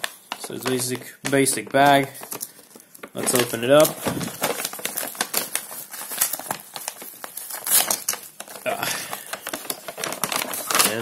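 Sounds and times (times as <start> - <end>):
paper envelope crackling and rustling: 0.0 - 11.0.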